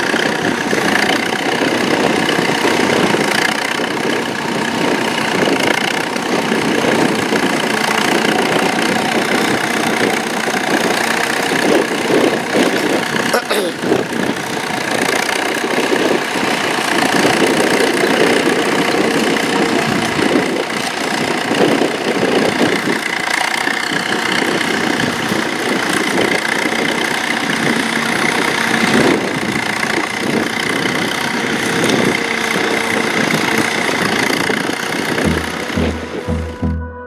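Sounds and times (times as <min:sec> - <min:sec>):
tractor engine running under load: 0:00.0 - 0:37.0.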